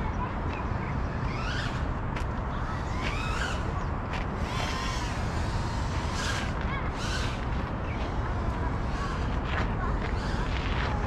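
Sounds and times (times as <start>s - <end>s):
small drone whining in flight: 0.0s - 11.0s.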